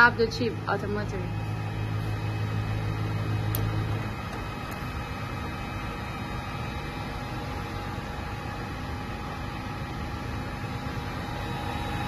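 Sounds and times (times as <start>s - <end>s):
fans and air blowers running: 0.0s - 12.0s
low hum: 0.0s - 12.0s.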